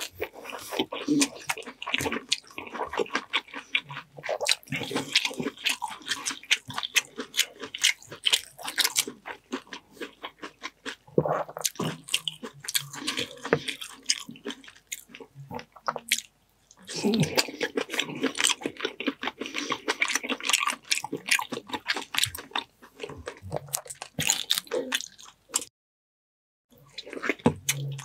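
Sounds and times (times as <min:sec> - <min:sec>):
wet chewing and lip-smacking: 0:00.0 - 0:25.7, 0:26.8 - 0:28.0.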